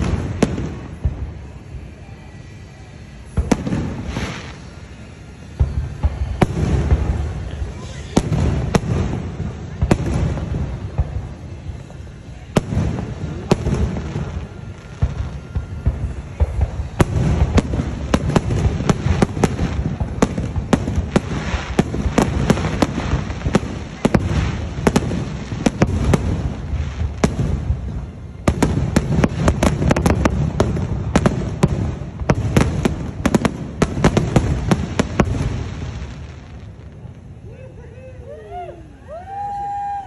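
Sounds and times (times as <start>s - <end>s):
rumbling echoes: 0.0s - 38.1s
fireworks bursting: 0.0s - 40.0s.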